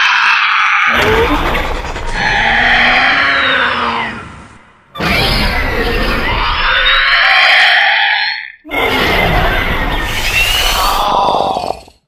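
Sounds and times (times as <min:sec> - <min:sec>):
high creature screech: 0:00.0 - 0:11.9
low rough creature call: 0:00.7 - 0:12.0.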